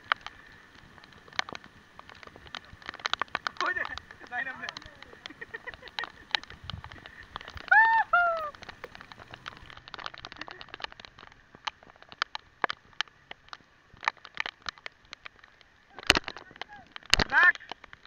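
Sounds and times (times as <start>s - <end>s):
raindrops clicking on camera: 0.0s - 18.0s.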